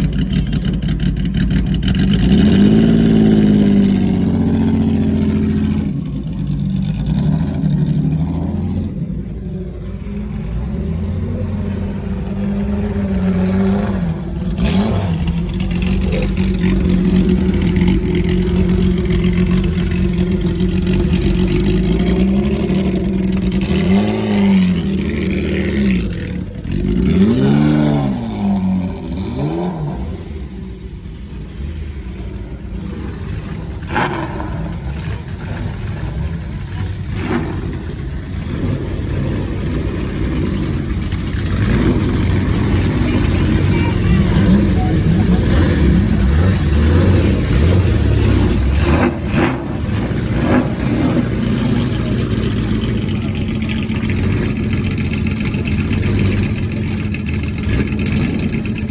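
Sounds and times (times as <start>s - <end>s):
racing car engines idling: 0.0s - 58.9s
engine revs blipped: 1.0s - 58.9s.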